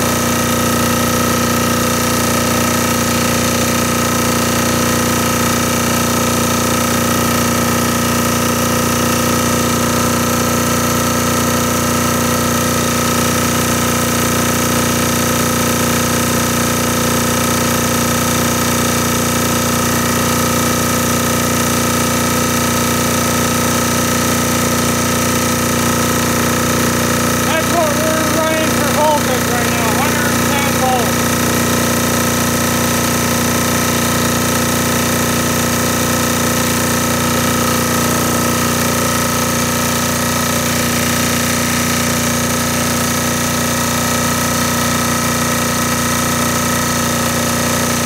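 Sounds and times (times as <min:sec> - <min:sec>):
diesel generator running: 0:00.0 - 0:48.0.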